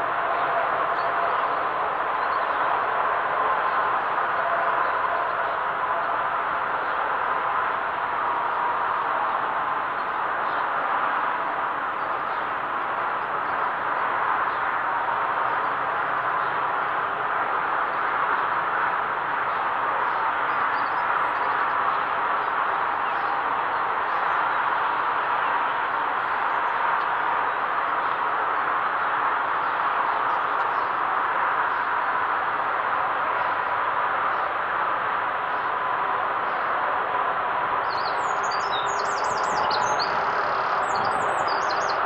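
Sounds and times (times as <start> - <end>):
distant steelworks din: 0.0 - 42.0.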